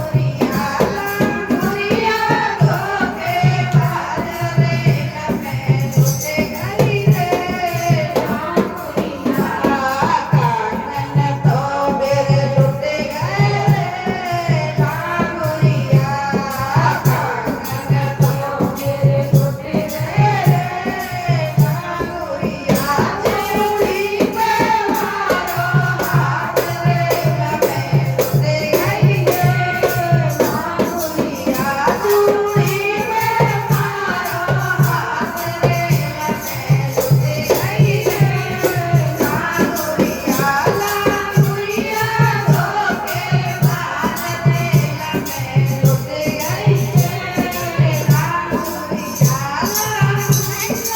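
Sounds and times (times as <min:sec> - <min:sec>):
jingling rattle percussion: 0:00.0 - 0:50.9
steady drum beat: 0:00.0 - 0:50.9.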